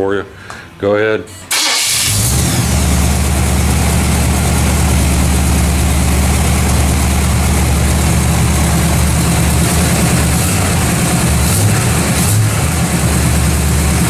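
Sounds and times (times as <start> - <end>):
car engine idling: 1.5 - 14.0.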